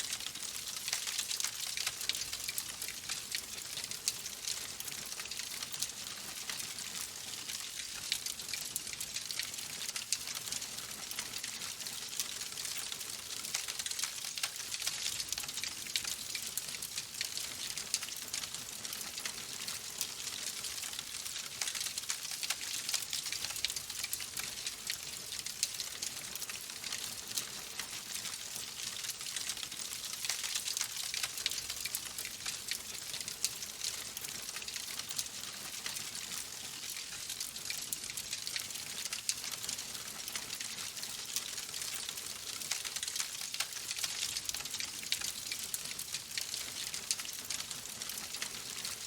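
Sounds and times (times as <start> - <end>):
logs crackling in fireplace: 0.0 - 49.0.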